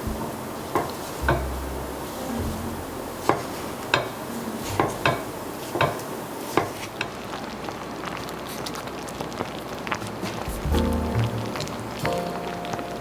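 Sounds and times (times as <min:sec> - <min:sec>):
soft steady hiss: 0:00.0 - 0:13.0.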